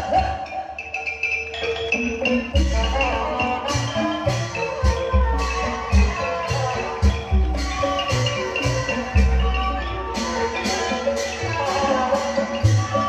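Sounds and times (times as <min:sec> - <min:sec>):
mallet-struck xylophone notes: 0:00.0 - 0:13.0.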